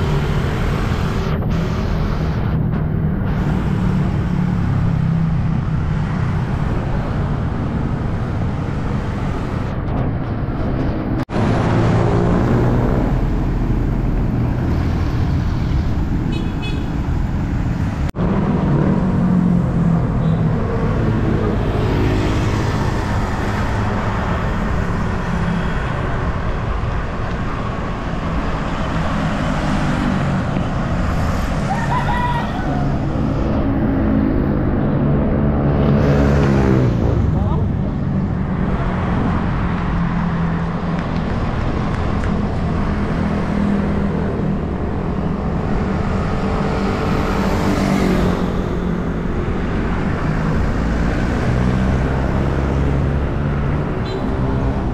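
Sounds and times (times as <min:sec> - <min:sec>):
vehicles passing: 0:00.0 - 0:54.9.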